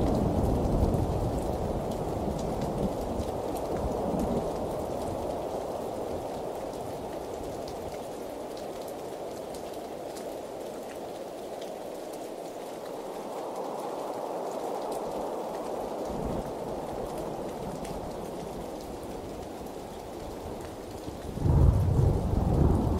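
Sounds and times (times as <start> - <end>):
rain falling: 0.0 - 22.9
raindrop ticks: 0.0 - 22.9.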